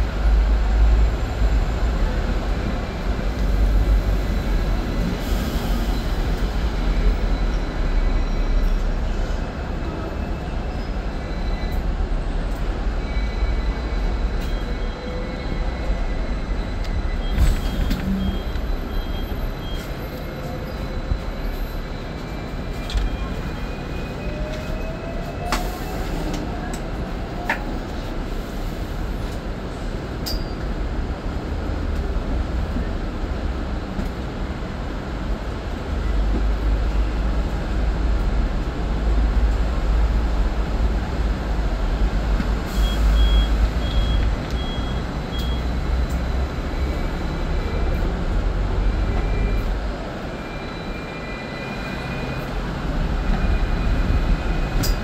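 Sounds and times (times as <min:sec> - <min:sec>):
street noise: 0:00.0 - 0:55.0
tram running rumble: 0:00.0 - 0:55.0.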